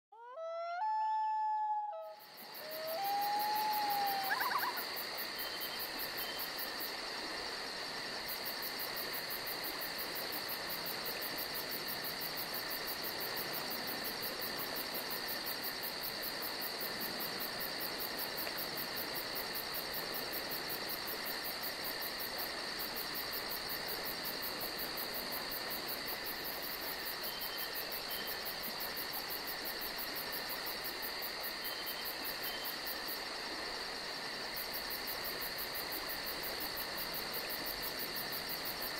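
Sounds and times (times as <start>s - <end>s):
crickets trilling: 0.8s - 38.9s
microphone hiss: 2.0s - 38.9s.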